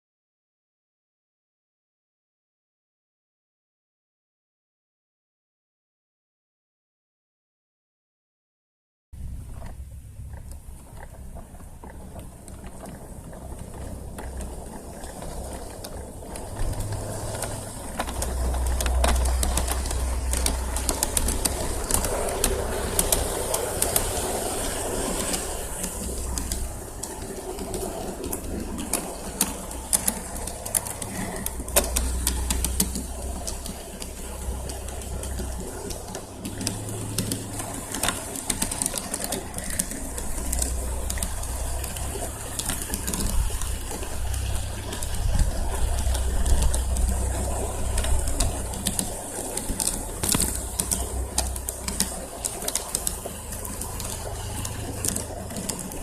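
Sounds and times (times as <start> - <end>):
low rumble: 9.2 - 38.4, 39.0 - 56.0.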